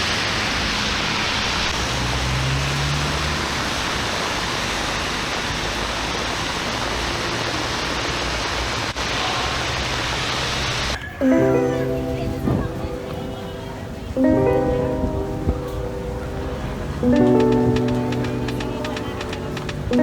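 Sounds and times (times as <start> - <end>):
rushing floodwater and rain: 0.0 - 20.0.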